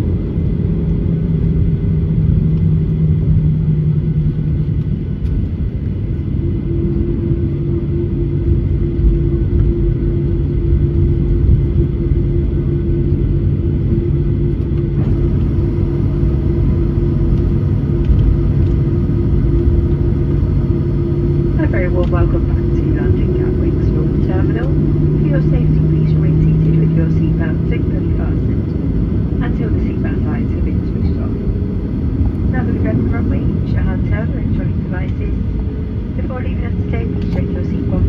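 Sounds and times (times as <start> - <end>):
engine hum: 0.0 - 38.0
higher hum: 0.0 - 38.0
wheels and engines rumbling: 0.0 - 38.0.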